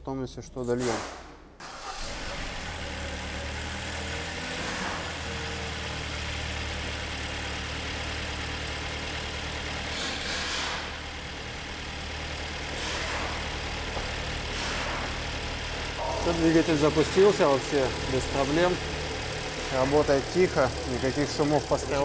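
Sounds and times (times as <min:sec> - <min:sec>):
car engine idling: 0:01.6 - 0:22.0.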